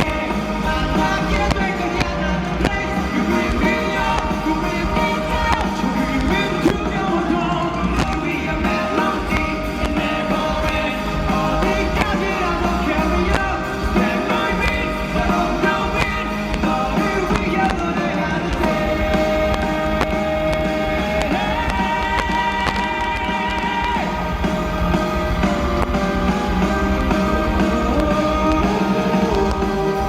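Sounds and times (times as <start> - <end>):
drums hitting: 0.0 - 30.0
live rock band playing: 0.0 - 30.0.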